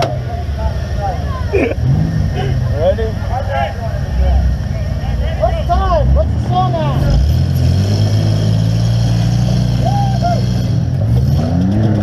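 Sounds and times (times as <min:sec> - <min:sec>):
minivan engine revving: 0:00.0 - 0:12.0.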